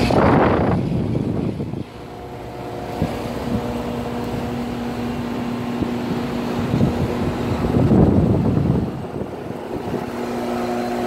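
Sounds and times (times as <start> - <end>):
air conditioner compressor humming: 0.0 - 11.0
condenser fan air rushing: 0.0 - 11.0.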